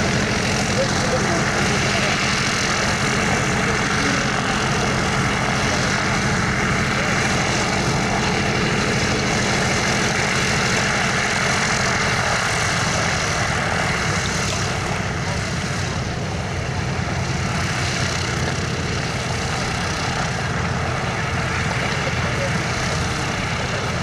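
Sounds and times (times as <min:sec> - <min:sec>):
radial aircraft engines idling: 0:00.0 - 0:24.0.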